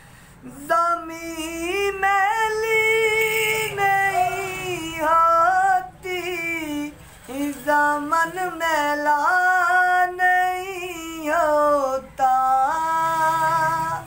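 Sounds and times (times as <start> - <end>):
man singing unaccompanied: 0.4 - 14.0.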